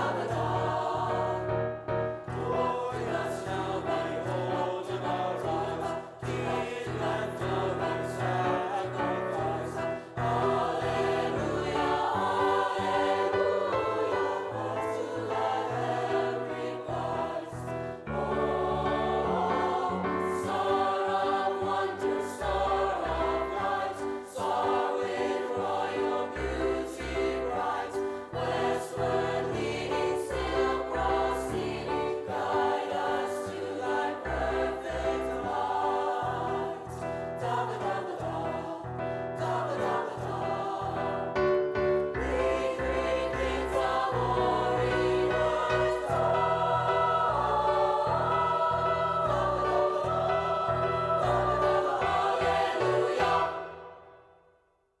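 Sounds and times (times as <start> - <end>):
children's choir singing a carol: 0.0 - 54.3.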